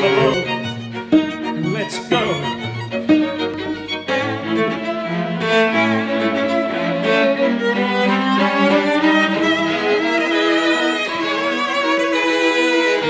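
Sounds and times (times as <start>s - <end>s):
cello and string quartet: 0.0s - 13.0s.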